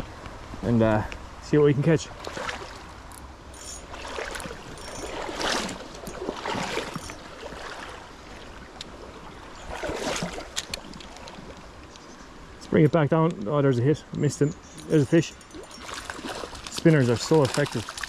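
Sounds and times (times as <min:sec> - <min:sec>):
shallow river water rippling: 0:01.2 - 0:18.0
water swishes: 0:01.8 - 0:12.8, 0:13.5 - 0:18.0.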